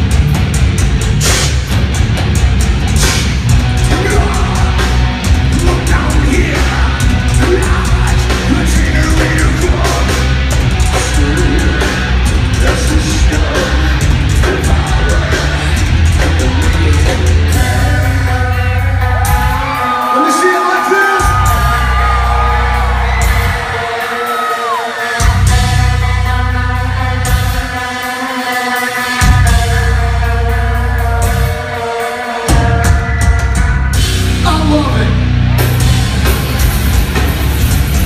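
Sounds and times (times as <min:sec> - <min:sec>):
metal band playing live: 0:00.0 - 0:38.0.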